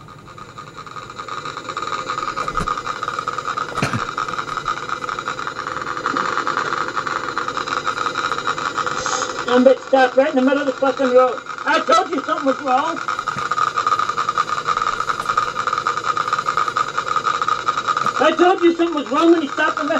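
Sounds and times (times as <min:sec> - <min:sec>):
mechanical hum: 0:00.0 - 0:19.9.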